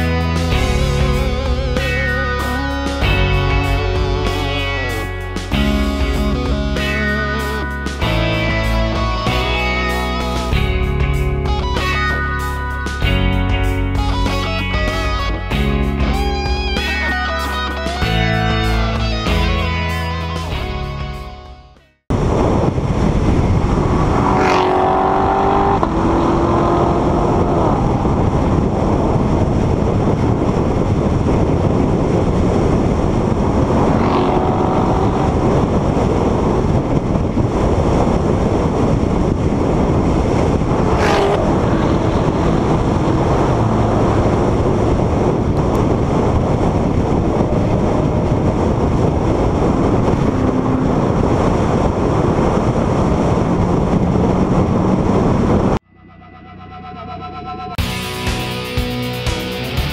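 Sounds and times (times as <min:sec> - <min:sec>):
car wind and road noise: 0:00.0 - 0:59.9.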